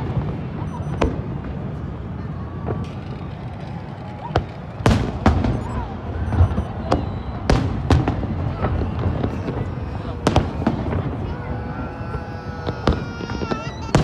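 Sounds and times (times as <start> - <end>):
fireworks low rumble: 0.0 - 14.0
fireworks sharp bangs: 0.0 - 14.0.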